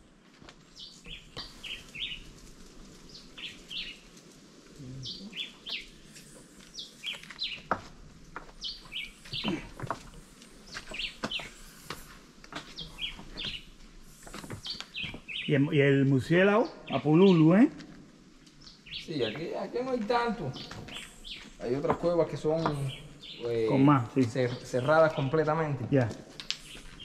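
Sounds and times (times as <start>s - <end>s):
birds chirping: 0.6s - 27.0s.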